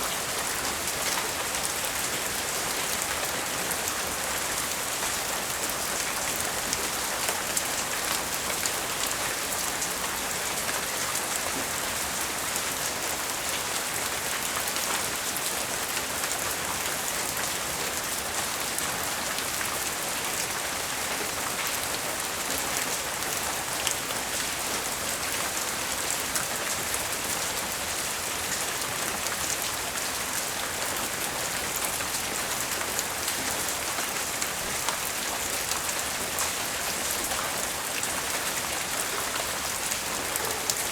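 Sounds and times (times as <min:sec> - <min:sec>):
light rain falling: 0:00.0 - 0:40.9.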